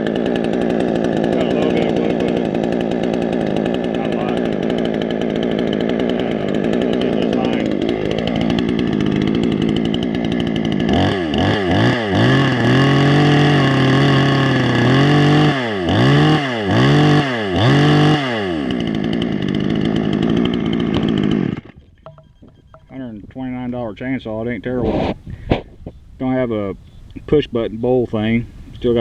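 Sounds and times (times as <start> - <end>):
two-stroke chainsaw revving: 0.0 - 26.5.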